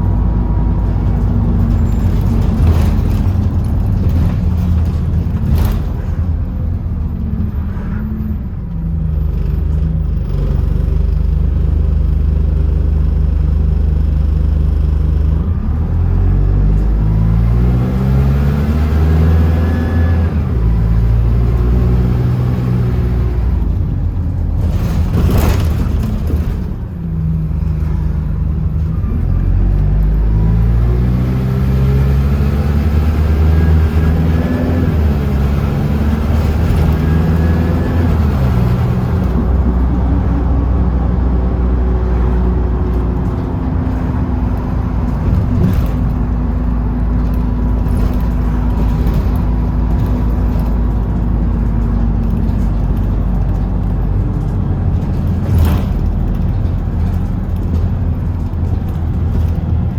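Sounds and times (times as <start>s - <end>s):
bus engine shifting gears: 0.0s - 59.9s.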